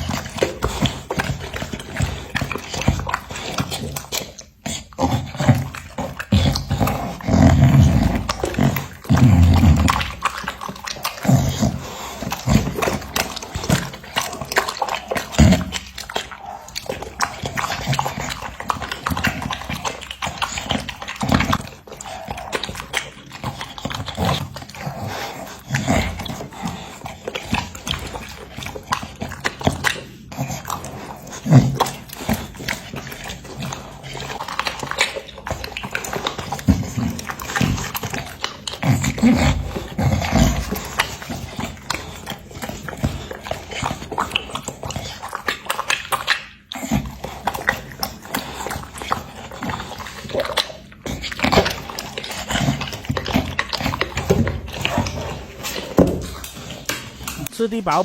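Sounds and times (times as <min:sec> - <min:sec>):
dog chewing meat: 0:00.0 - 0:58.0.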